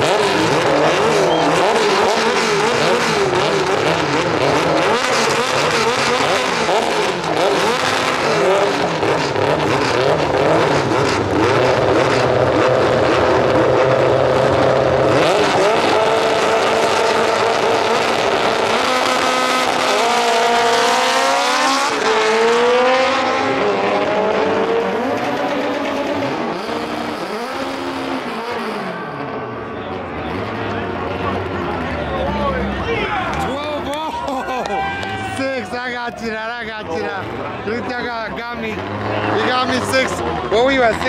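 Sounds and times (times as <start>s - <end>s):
drag car engines revving: 0.0s - 41.0s.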